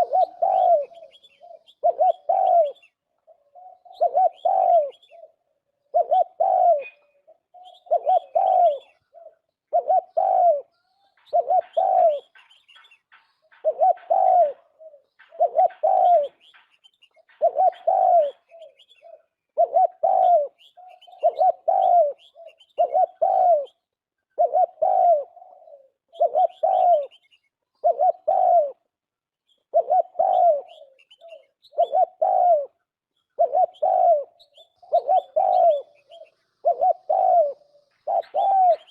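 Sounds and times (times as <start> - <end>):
small birds chirping: 0.0 - 28.5, 29.3 - 38.9
turtle dove cooing: 0.0 - 38.9.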